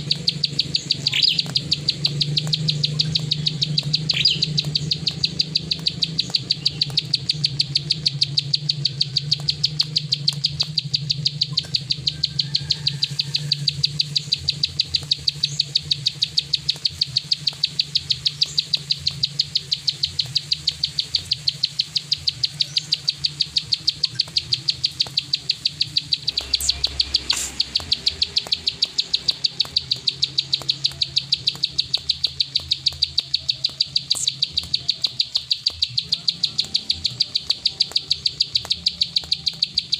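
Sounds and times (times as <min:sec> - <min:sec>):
bird clicking call: 0:00.0 - 0:39.9.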